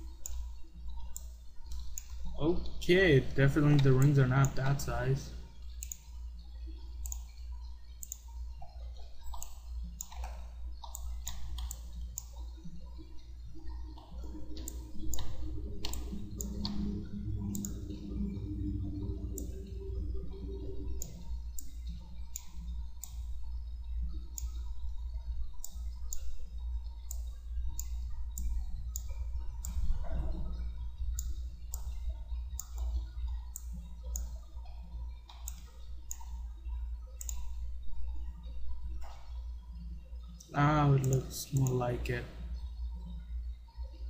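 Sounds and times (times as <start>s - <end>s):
computer mouse clicking: 0.0s - 2.8s, 3.6s - 19.8s, 20.9s - 38.2s, 40.2s - 41.8s
steady low hum: 0.0s - 44.0s.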